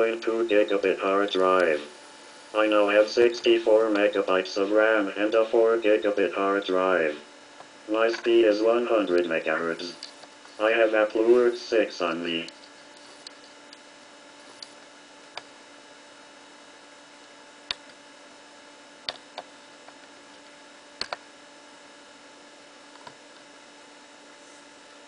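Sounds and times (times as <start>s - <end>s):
computer electrical hum: 0.0s - 25.0s.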